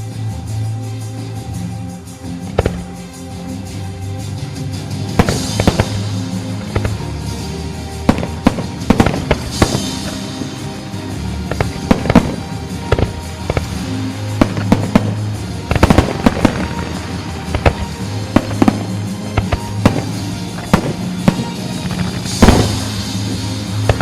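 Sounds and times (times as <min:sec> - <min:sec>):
firework crackle: 0:00.0 - 0:24.0
music: 0:00.0 - 0:24.0
fireworks bursting: 0:02.3 - 0:24.0.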